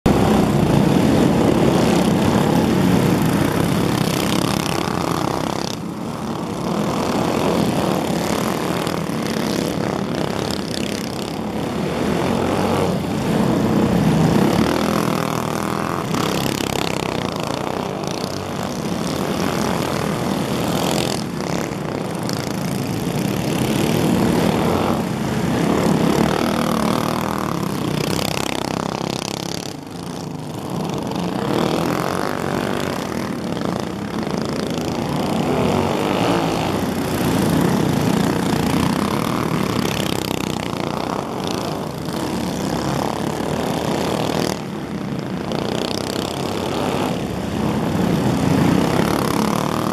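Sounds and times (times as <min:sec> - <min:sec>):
go-kart engines buzzing: 0:00.1 - 0:49.9.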